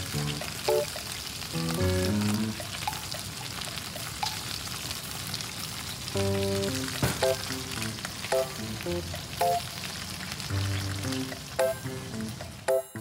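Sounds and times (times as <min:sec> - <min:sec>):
oil and water sizzling: 0:00.0 - 0:13.0.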